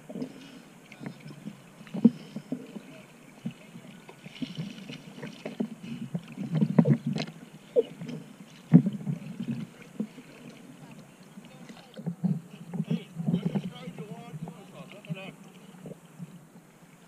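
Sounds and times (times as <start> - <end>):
sea water splashing against camera: 0.0 - 17.0.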